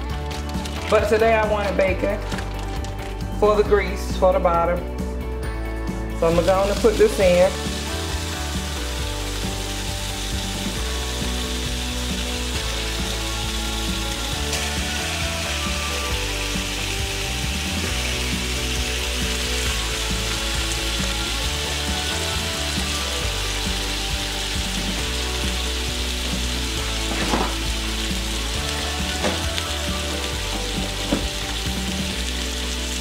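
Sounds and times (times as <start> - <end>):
bacon sizzling in a frying pan: 6.2 - 33.0.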